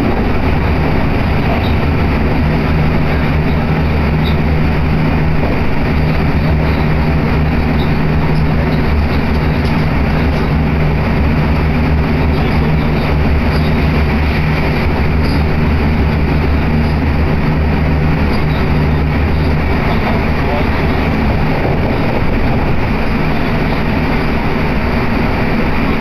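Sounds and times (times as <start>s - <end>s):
train interior hum and rumble: 0.0s - 26.0s.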